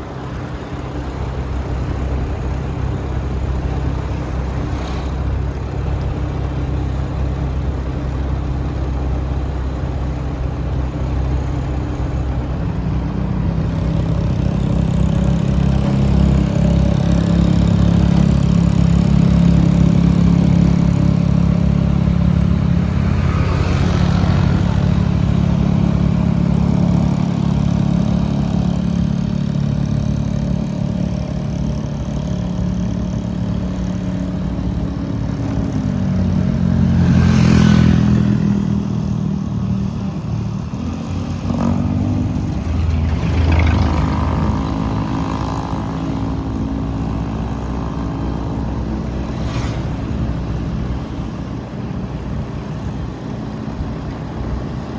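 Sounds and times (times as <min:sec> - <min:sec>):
motorbike engine running: 0:00.0 - 0:54.9
other traffic: 0:00.0 - 0:54.9.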